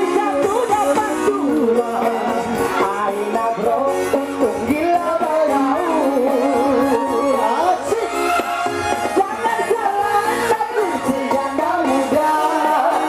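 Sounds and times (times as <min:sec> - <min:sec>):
live band music: 0:00.0 - 0:13.0
woman singing: 0:00.0 - 0:13.0.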